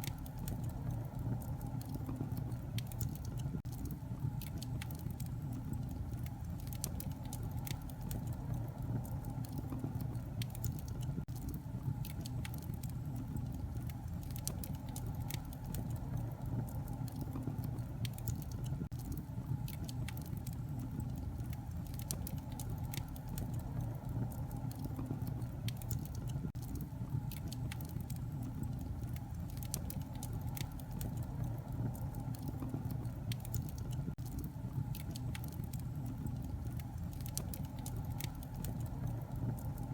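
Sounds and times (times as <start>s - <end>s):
low rumble of flame: 0.0s - 39.9s
wood fire crackling: 0.0s - 39.9s.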